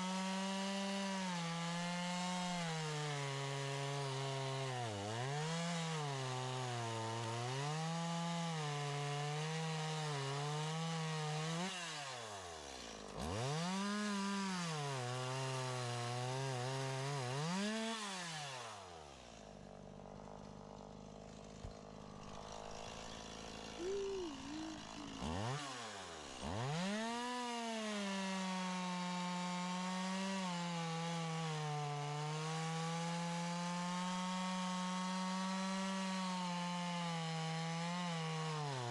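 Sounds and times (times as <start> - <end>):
chainsaw running and cutting: 0.0 - 38.9.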